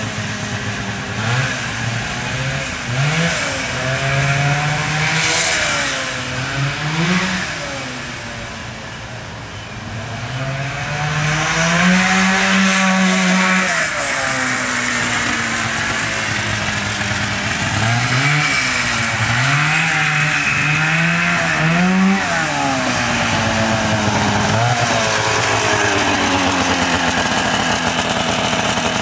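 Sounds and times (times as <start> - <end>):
two-stroke engine revving: 0.0 - 29.0.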